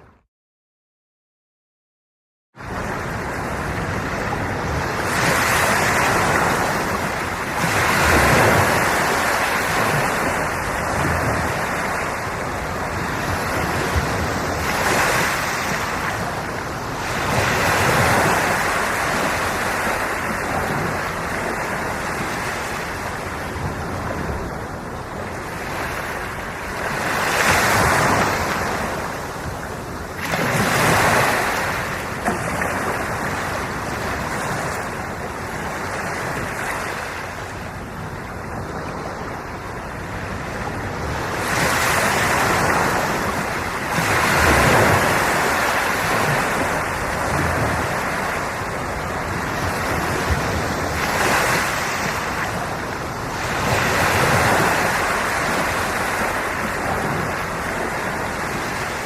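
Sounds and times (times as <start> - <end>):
sea waves breaking on shore: 2.6 - 59.0.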